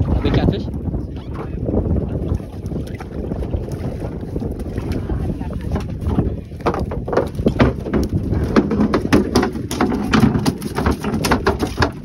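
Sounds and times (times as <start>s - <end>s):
fish thrashing on boat deck: 1.3s - 12.0s.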